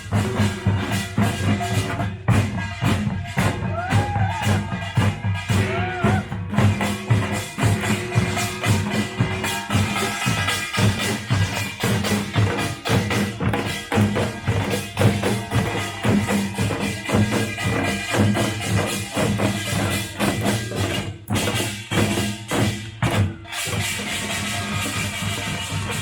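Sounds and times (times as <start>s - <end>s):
small metal gongs clanging: 0.0s - 3.9s, 6.5s - 26.0s
drums in fast rhythm: 0.0s - 26.0s.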